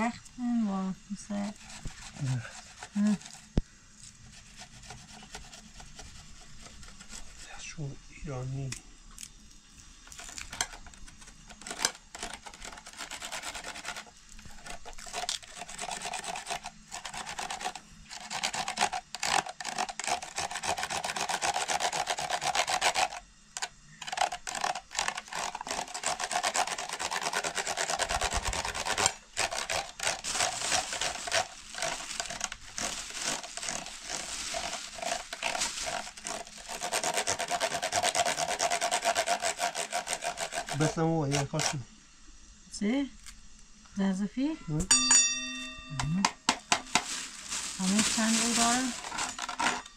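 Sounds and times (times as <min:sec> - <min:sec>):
hand rubbing and scraping: 0:01.3 - 0:07.8, 0:10.2 - 0:23.2, 0:24.0 - 0:41.8, 0:46.5 - 0:49.9.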